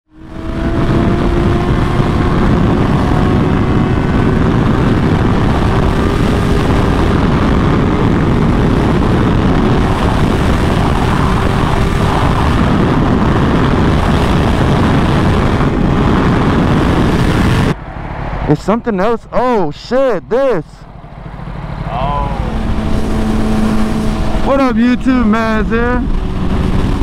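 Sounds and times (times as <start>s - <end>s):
motorcycle engine droning: 0.1s - 27.0s
wind rush on microphone: 0.1s - 27.0s.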